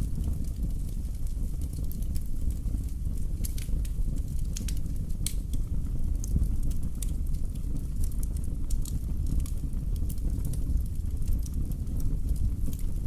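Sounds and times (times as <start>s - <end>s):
burning logs crackling and popping: 0.0s - 13.0s
fire flames rumbling: 0.0s - 13.0s.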